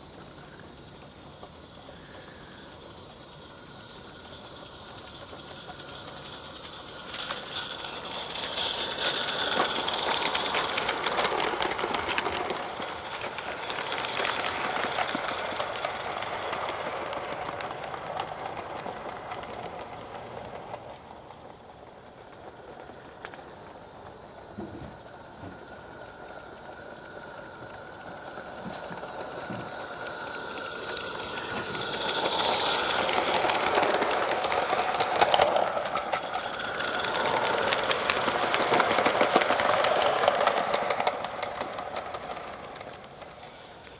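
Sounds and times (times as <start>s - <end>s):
steam hiss: 0.0s - 43.9s
steam locomotive exhaust chuffs: 0.0s - 43.9s.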